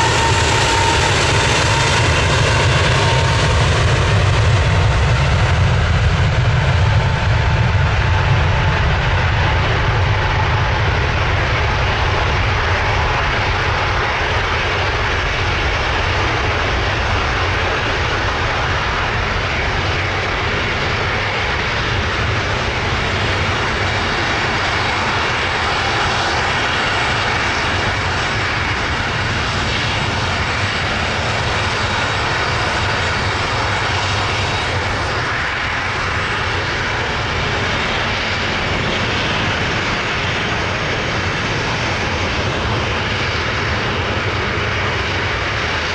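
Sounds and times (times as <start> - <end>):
jet engines roaring: 0.0 - 45.9.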